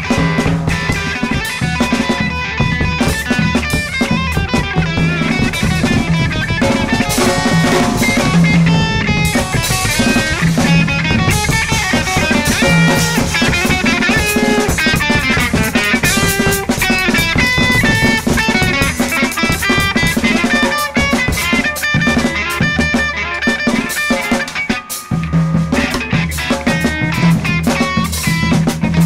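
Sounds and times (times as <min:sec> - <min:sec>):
drum kit playing: 0:00.0 - 0:29.0.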